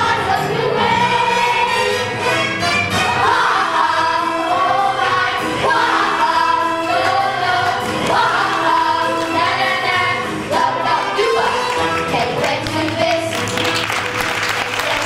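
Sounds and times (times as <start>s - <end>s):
children's choir singing: 0.0s - 13.8s.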